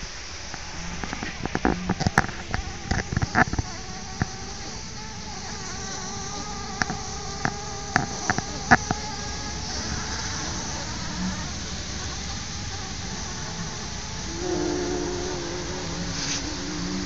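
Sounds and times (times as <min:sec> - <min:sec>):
bumblebees buzzing: 0:00.0 - 0:17.0.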